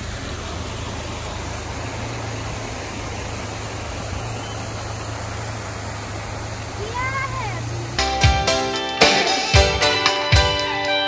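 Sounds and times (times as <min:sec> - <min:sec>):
river water rushing: 0:00.0 - 0:09.6.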